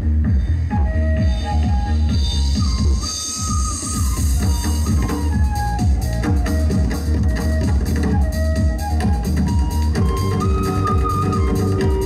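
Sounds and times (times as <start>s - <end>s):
electronic dance music over loudspeakers: 0.0s - 12.0s.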